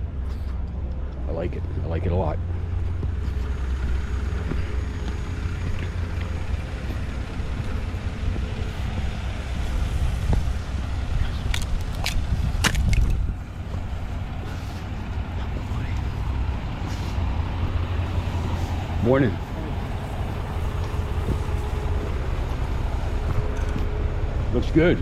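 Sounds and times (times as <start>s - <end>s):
heavy vehicle engine rumbling: 0.0s - 25.0s.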